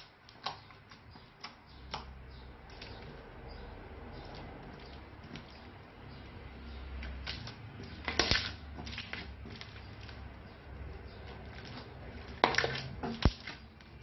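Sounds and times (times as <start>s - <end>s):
slime squishing and crackling: 0.0s - 3.2s, 4.0s - 14.0s.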